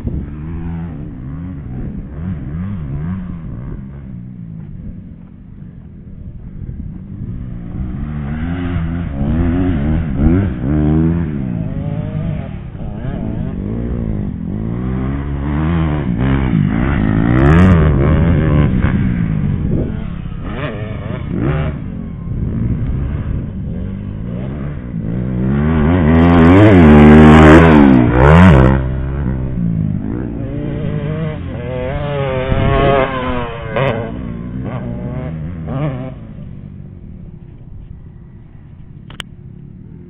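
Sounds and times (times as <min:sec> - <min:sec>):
off-road racing engines revving: 0:00.0 - 0:38.4.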